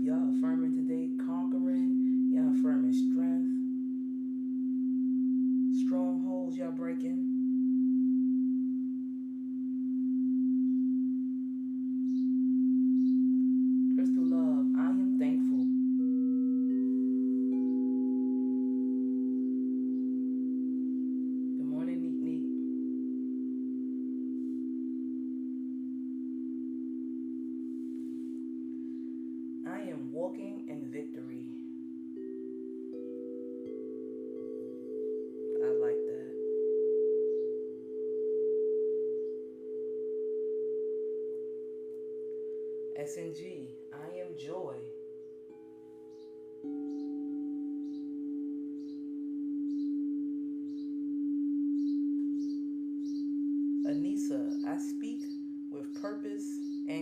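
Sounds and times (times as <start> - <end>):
singing bowl ringing: 0.0 - 43.0, 44.9 - 57.0
bird chirping: 3.6 - 29.9, 31.2 - 39.9, 42.0 - 57.0.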